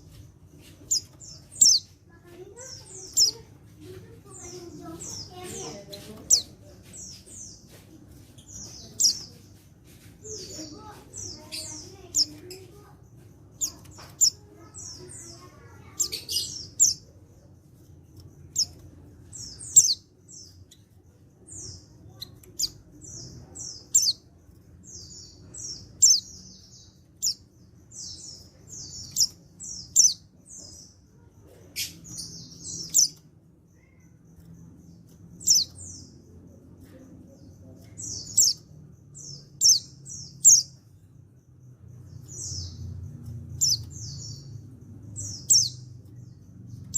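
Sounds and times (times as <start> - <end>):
bird chirping: 0.0 - 46.9.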